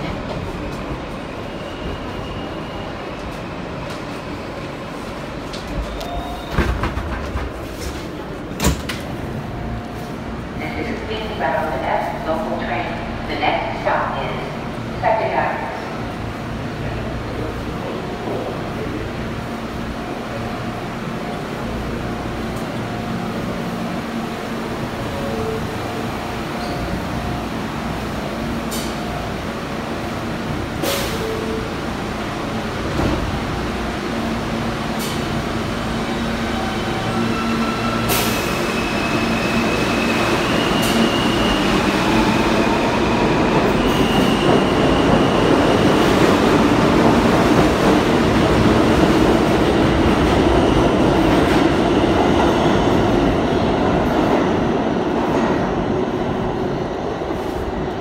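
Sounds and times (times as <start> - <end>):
subway train rumble: 0.0 - 58.0.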